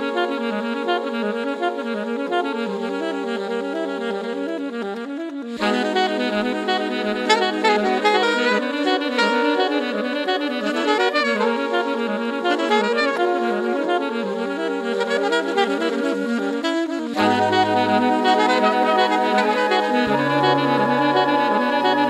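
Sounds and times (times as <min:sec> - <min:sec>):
saxophone music over low note: 0:00.0 - 0:22.0.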